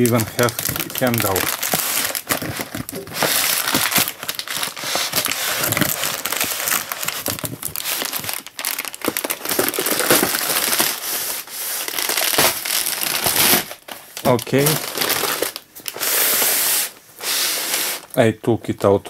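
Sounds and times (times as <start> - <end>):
plastic wrap crinkling: 0.0 - 18.2.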